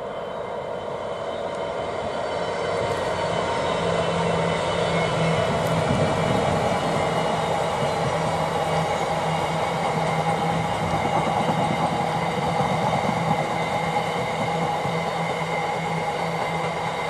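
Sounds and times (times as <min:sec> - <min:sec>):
diesel locomotive hauling freight train: 0:00.0 - 0:17.0.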